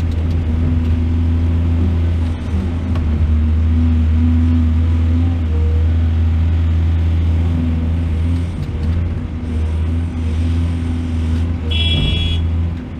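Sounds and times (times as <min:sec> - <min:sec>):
heavy diesel engine running: 0:00.0 - 0:12.9.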